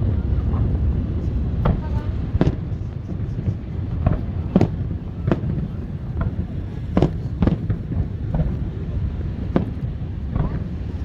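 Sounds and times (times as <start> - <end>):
fireworks bangs: 1.6 - 11.0.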